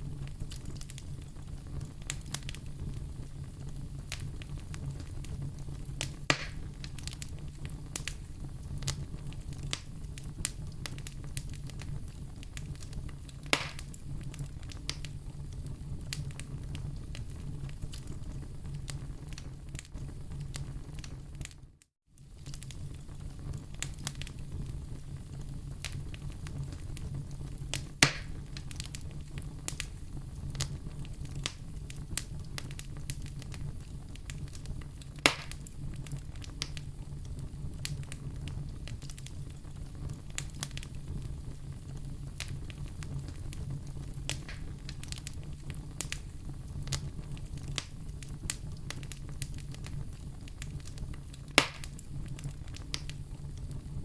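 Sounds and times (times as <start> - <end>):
loud fire pops: 0.0 - 21.6, 22.2 - 54.0
wood fire crackling: 0.0 - 54.0.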